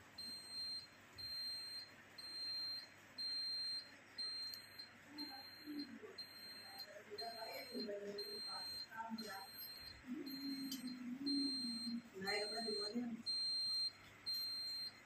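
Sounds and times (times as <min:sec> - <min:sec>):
electronic alarm beeping: 0:00.2 - 0:15.0.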